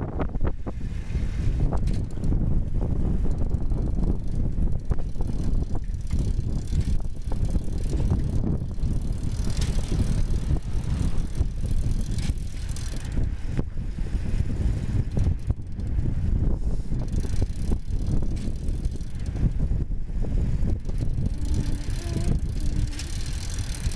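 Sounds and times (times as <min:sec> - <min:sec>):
bicycle tyres rumbling on road: 0:00.0 - 0:23.9
wind on microphone: 0:00.0 - 0:23.9
bike knocks and rattles: 0:01.5 - 0:19.8, 0:20.4 - 0:23.9.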